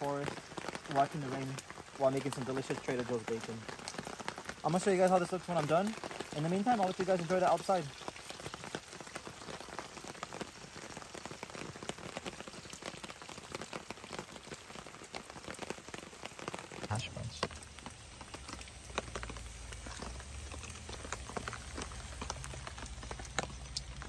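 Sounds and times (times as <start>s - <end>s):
rain on a tarp: 0.0s - 24.0s.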